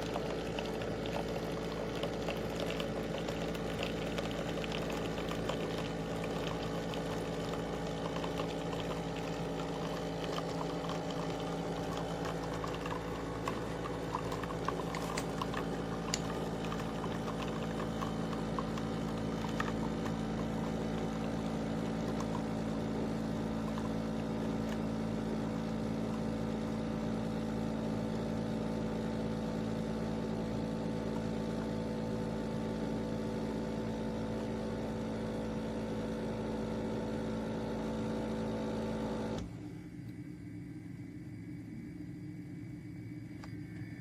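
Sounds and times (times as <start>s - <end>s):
espresso machine humming: 0.0s - 40.4s.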